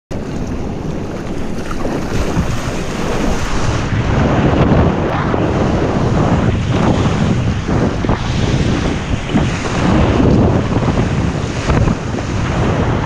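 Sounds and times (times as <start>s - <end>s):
rushing surf and spray: 0.1s - 13.0s
wind buffeting microphone: 0.1s - 13.0s.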